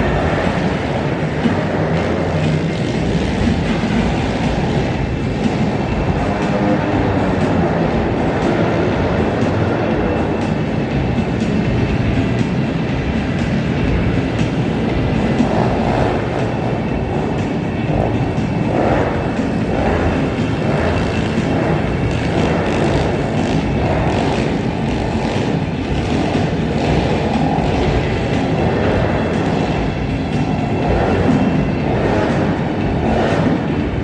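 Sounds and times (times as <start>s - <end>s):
pit bike engines revving: 0.0s - 34.0s.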